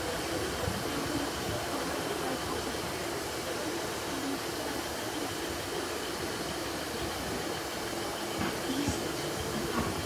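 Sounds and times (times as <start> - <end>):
train rumble and hiss: 0.0 - 10.0.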